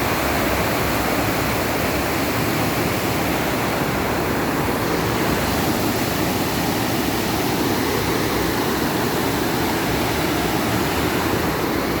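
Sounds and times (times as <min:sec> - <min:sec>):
floodwater gushing: 0:00.0 - 0:12.0.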